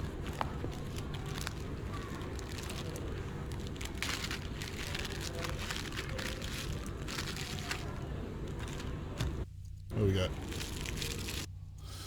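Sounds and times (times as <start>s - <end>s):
plastic packaging rustling: 0.0s - 11.5s.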